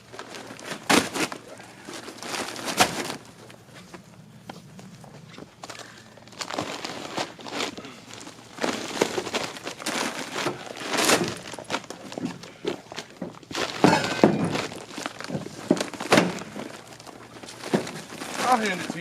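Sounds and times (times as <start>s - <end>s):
heavy bags thudding and scuffing: 0.0s - 4.0s, 5.3s - 19.0s.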